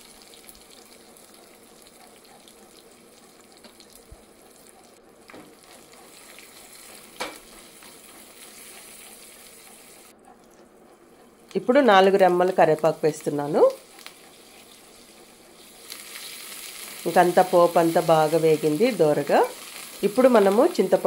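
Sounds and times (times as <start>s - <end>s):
oil sizzling in a pan: 0.0s - 10.1s, 11.9s - 21.0s.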